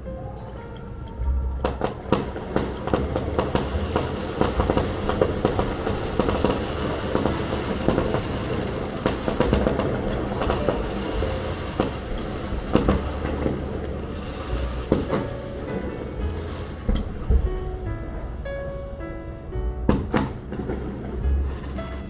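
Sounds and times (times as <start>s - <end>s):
fireworks bangs and crackles: 1.6s - 22.0s.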